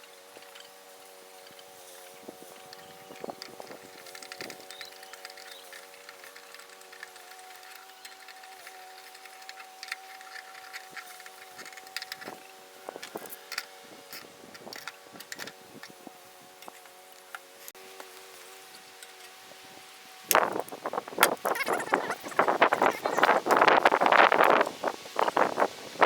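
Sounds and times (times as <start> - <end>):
steady even hum: 0.0 - 26.0.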